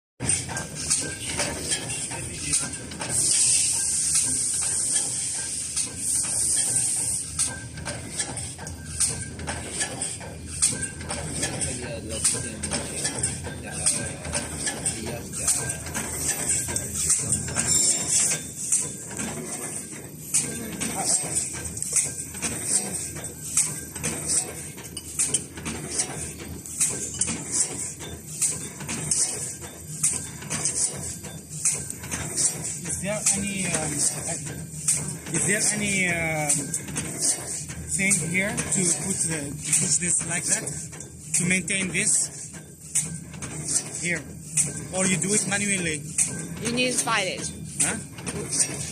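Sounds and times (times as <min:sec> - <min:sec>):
sharp machine knock: 0:00.2 - 0:48.9.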